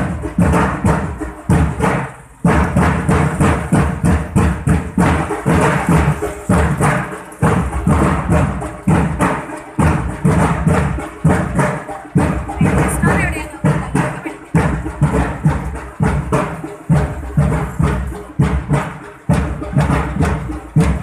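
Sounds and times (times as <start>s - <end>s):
rhythmic percussion music: 0.0s - 21.0s.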